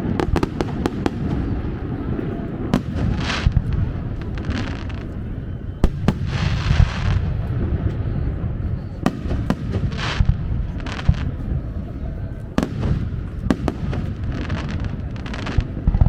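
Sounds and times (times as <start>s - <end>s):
fireworks bangs: 0.0s - 16.0s
fireworks crackling fizz: 0.0s - 16.0s.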